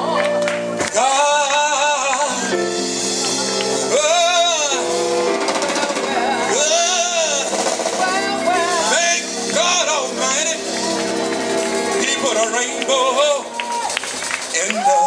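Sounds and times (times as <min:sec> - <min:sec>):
person singing gospel: 0:00.0 - 0:15.0.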